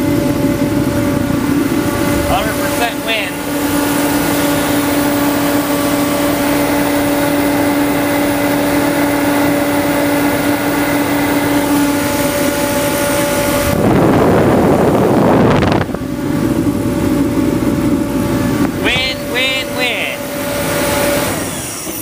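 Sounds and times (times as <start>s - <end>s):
heater rushing noise: 0.0s - 22.0s
kerosene heater motor hum: 0.0s - 22.0s.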